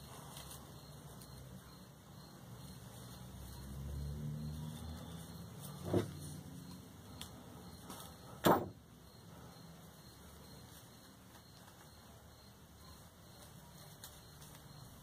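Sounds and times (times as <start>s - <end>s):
faint background noise: 0.0s - 15.0s.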